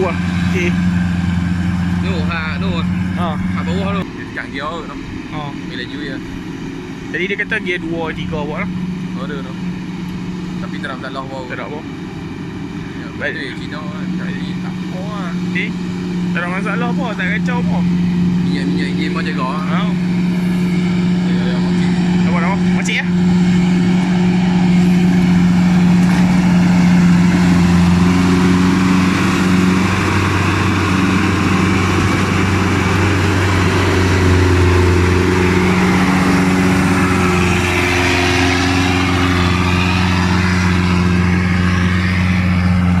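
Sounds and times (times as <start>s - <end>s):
combine harvester engine droning: 0.0s - 43.0s.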